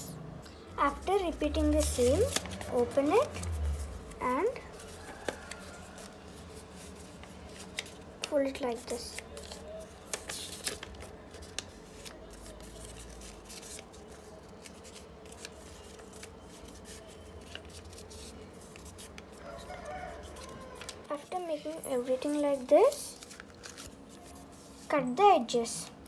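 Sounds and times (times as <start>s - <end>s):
paper crackling and creasing: 0.9s - 25.0s.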